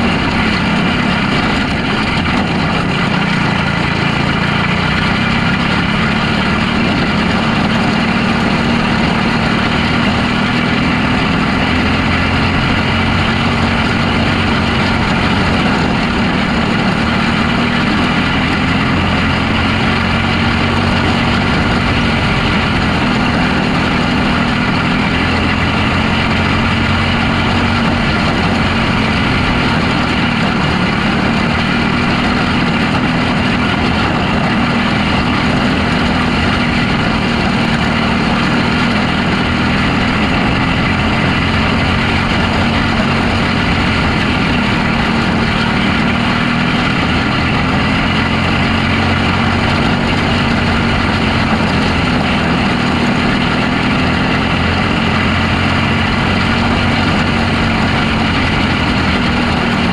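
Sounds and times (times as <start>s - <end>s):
racing engine running hard: 0.0s - 59.9s
wind noise: 0.0s - 59.9s.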